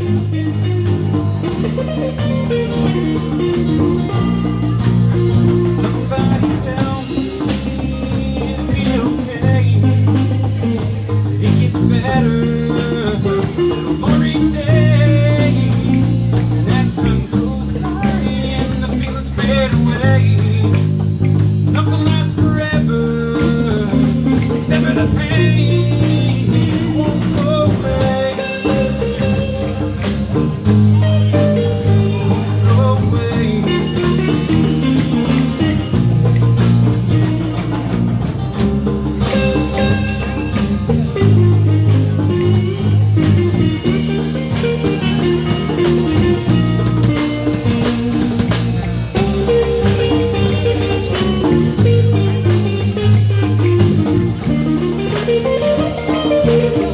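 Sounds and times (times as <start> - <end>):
drum kit beat: 0.0 - 56.9
lead guitar: 0.0 - 56.9
walking bass: 0.0 - 56.9.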